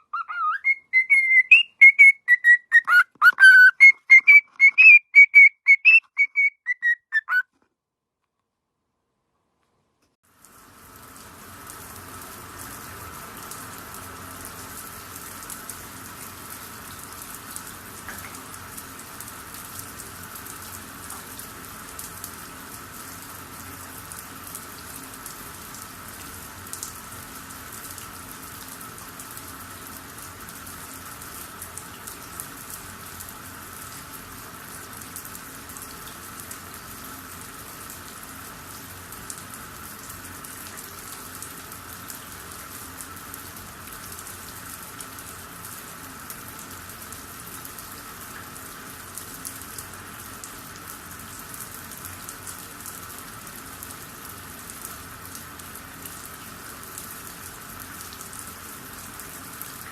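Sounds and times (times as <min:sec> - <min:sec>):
steady rain falling: 0:10.3 - 0:59.9.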